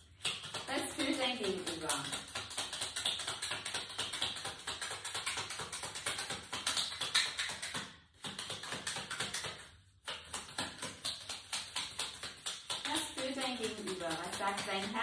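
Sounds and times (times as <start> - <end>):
cards being shuffled: 0.1 - 12.9.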